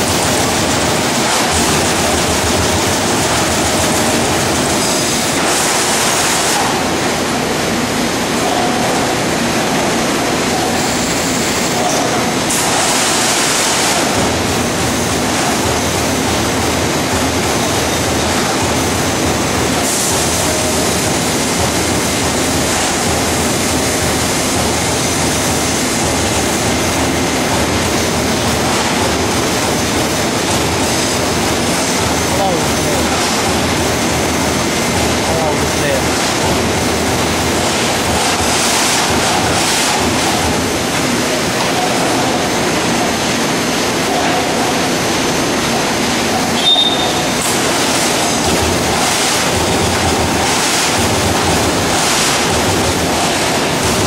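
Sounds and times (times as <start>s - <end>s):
punch press mechanical clatter: 0.0s - 54.0s.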